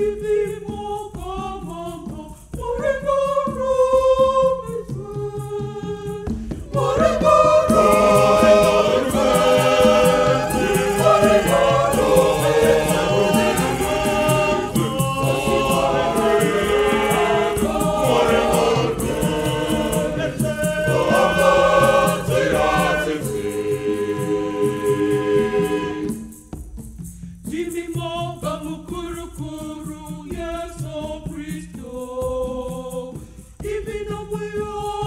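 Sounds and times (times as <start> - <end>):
choir singing a hymn: 0.0 - 26.4, 27.5 - 35.0
shaker beat: 0.0 - 35.0.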